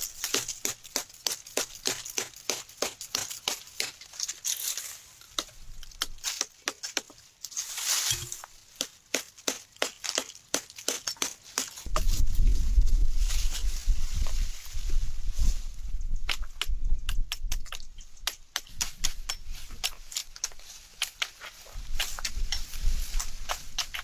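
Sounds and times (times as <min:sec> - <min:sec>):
dry leaves and twigs crunching: 0:00.0 - 0:16.6, 0:17.7 - 0:24.0.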